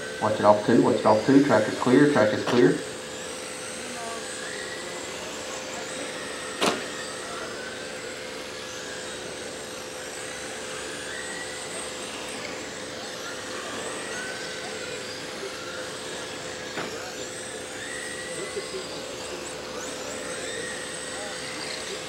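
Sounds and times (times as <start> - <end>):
electric rc car motors whining: 0.0 - 22.0.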